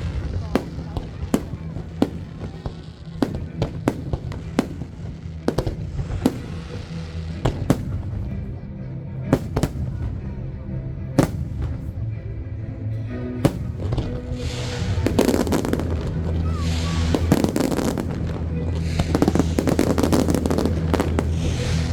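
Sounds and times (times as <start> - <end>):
fireworks bangs and crackling: 0.0 - 8.6, 9.2 - 12.2, 13.4 - 21.9
music with steady bass: 0.0 - 21.9.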